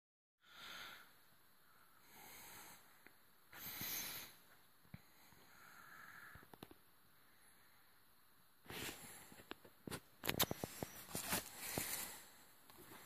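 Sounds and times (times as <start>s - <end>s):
soft breathing: 0.4s - 10.0s, 10.6s - 13.0s.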